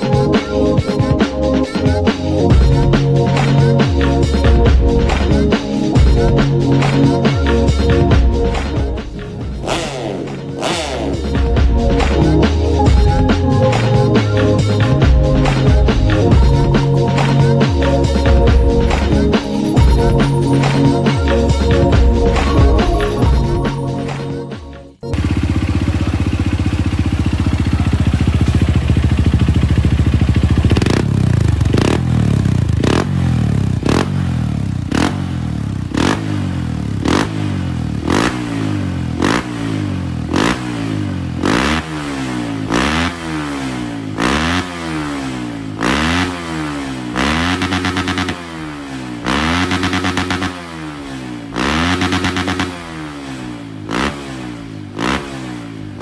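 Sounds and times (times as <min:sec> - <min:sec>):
motorcycle engine idling and revving: 0:00.0 - 0:24.5, 0:25.1 - 0:56.0.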